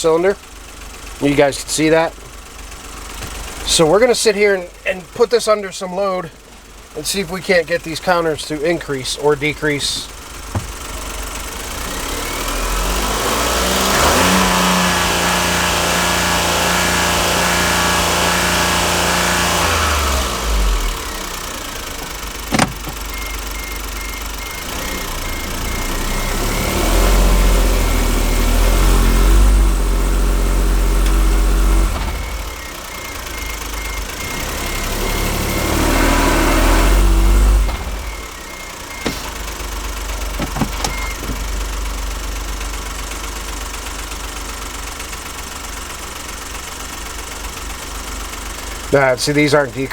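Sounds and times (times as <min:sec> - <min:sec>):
misfiring car engine revving: 0:00.0 - 0:49.9.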